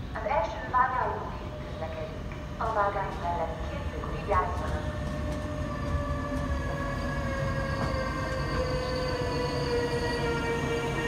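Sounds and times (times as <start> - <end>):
electric locomotive whine: 0.0 - 11.0
wheels rumbling on rail: 1.5 - 11.0.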